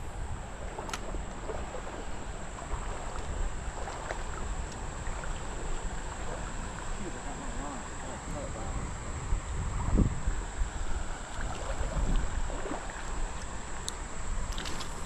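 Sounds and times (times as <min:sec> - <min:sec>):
creek water moving: 0:00.0 - 0:15.0
wind on microphone: 0:00.0 - 0:15.0.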